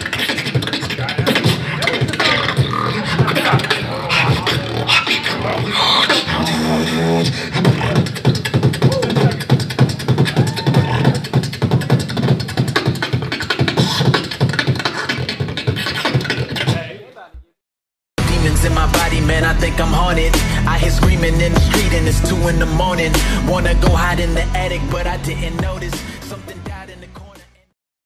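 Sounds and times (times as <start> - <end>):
person beatboxing: 0.0 - 17.5, 18.2 - 27.7.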